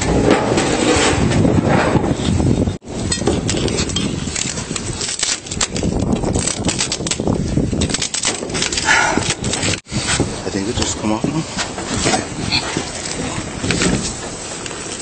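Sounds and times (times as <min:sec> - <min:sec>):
rustling and scraping at microphone: 0:00.0 - 0:15.0.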